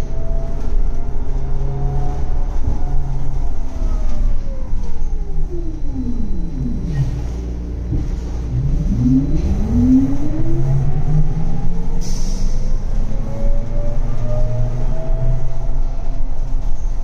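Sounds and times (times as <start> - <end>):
low rumble: 0.0 - 17.0
trolleybus electric drive whine: 0.0 - 17.0.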